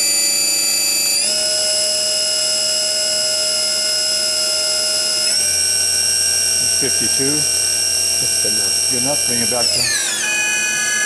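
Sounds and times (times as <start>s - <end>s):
lathe spindle high whine: 0.0s - 11.0s.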